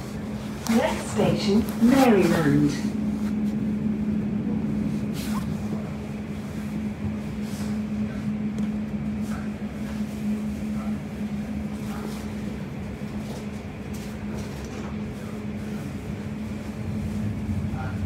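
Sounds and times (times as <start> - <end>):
train interior hum and rumble: 0.0 - 18.0.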